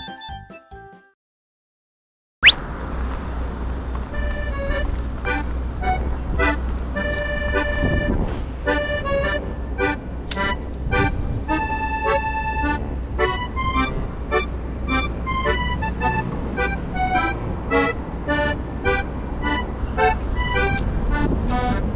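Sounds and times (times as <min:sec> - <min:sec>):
light accordion-like tune: 0:04.2 - 0:21.9.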